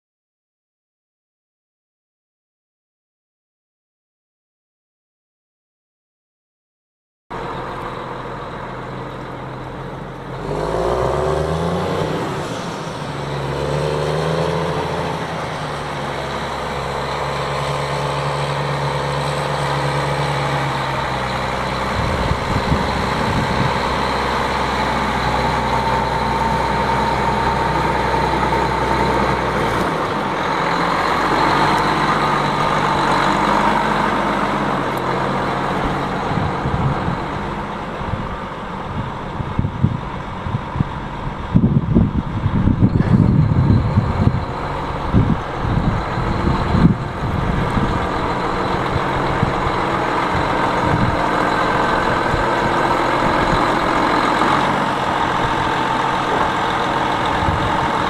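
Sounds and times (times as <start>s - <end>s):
low buffeting: 7.3s - 58.0s
tractor diesel engine revving: 7.3s - 58.0s.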